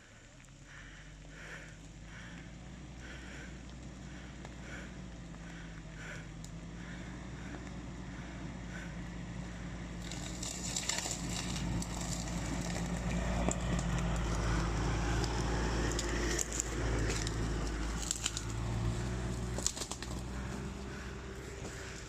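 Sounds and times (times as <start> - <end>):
truck engine running: 0.0 - 22.0
tyres crunching over rough ground: 0.0 - 22.0.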